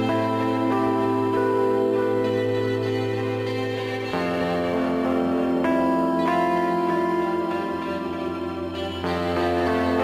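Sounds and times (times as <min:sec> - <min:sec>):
slow gentle new-age music: 0:00.0 - 0:10.0.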